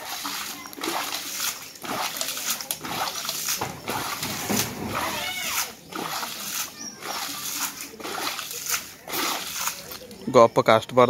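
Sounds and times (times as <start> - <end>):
hands splashing in muddy water: 0.0 - 10.2.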